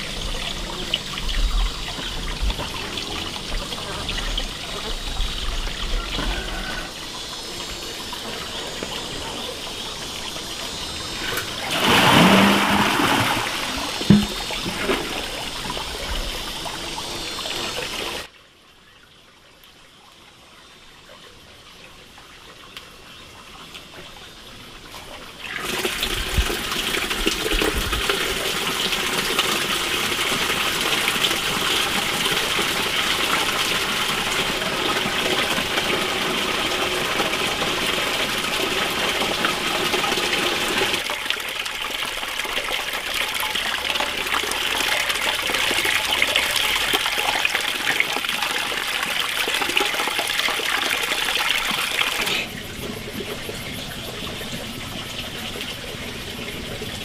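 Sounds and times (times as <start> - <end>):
water gushing: 0.0 - 18.3, 23.4 - 57.0.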